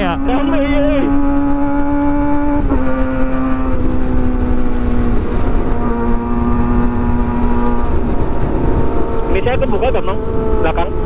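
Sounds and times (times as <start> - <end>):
motorcycle engine cruising: 0.0 - 11.0
wind rumble on microphone: 0.0 - 11.0.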